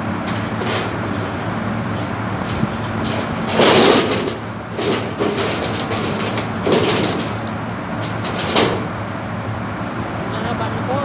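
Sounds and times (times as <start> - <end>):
hvac machinery humming: 0.0 - 11.0.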